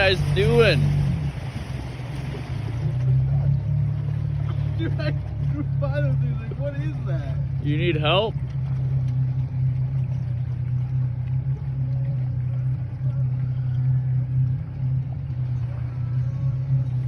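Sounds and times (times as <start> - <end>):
boat motor running: 0.0 - 17.0
water noise: 0.0 - 17.0.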